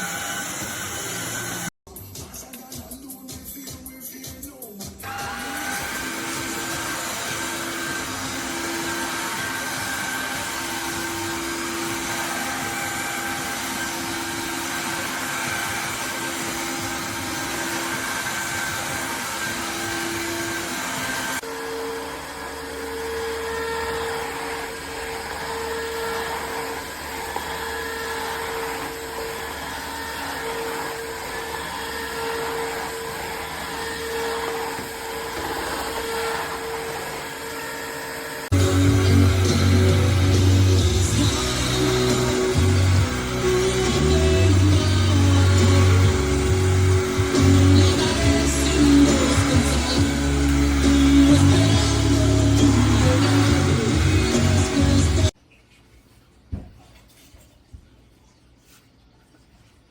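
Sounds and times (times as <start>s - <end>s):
cordless vacuum mop humming: 0.0s - 1.7s, 5.0s - 55.4s.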